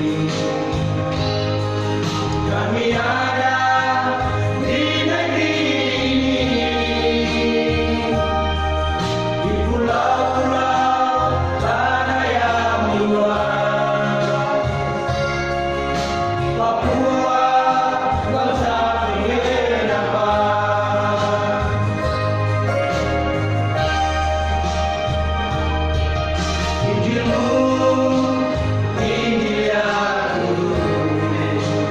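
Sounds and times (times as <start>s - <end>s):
low bass notes: 0.0s - 31.9s
vocal group singing gospel harmony: 0.0s - 31.9s.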